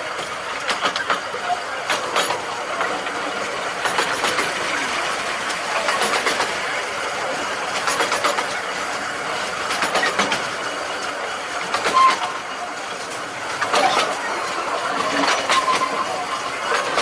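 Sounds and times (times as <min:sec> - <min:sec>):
wheels clicking over rail joints: 0:00.0 - 0:17.0
wheels rumbling on rail: 0:00.0 - 0:17.0.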